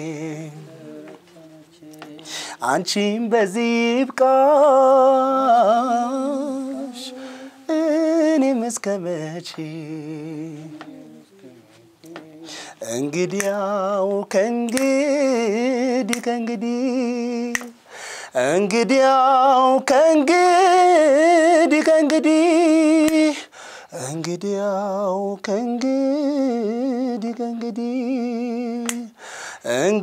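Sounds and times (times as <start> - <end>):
man singing unaccompanied: 0.0 - 30.0.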